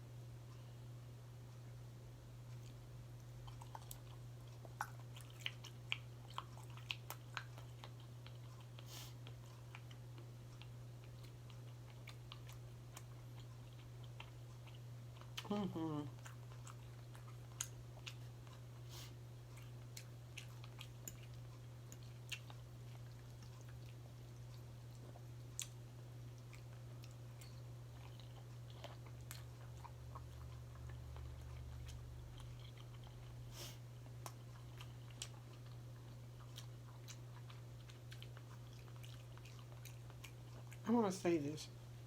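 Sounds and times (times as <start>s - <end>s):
steady low hum: 0.0s - 42.0s
person chewing: 2.4s - 40.8s.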